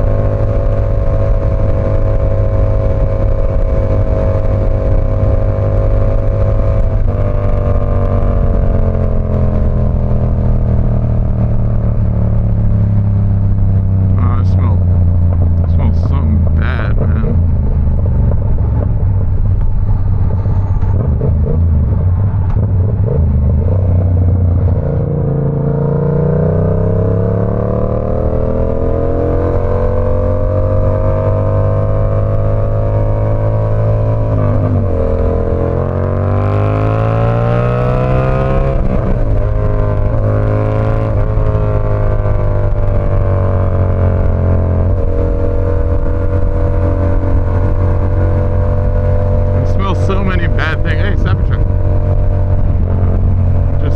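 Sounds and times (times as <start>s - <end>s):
motorcycle engine revving: 0.0s - 53.9s
wind noise: 0.0s - 53.9s.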